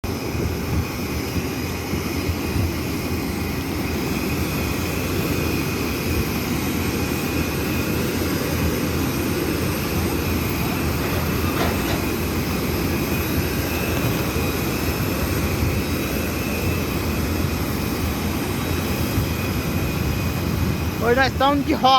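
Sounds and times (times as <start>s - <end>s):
aircraft turbine rumble and whine: 0.0s - 21.9s.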